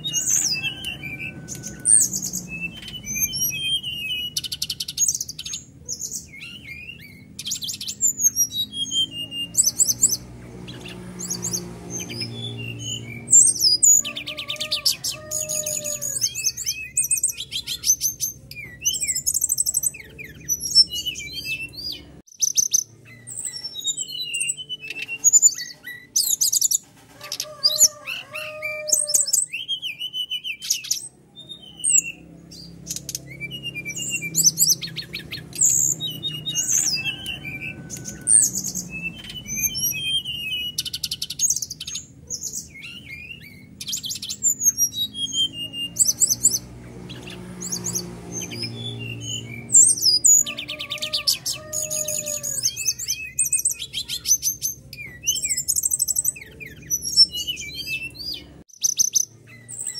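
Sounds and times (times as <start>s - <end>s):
bird singing trills and whistles: 0.0s - 59.9s.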